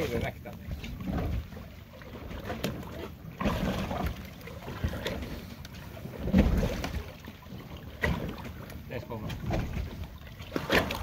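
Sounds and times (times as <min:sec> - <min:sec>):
boat at sea: 0:00.0 - 0:11.0.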